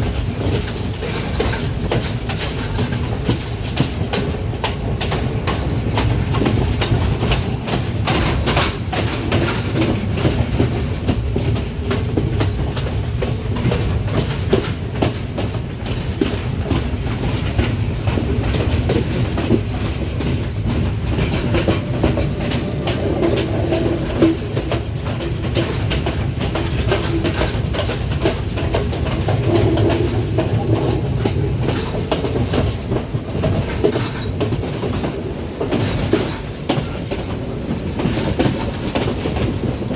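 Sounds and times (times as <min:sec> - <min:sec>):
low train rumble: 0:00.0 - 0:39.9
train wheels clattering: 0:00.0 - 0:39.9.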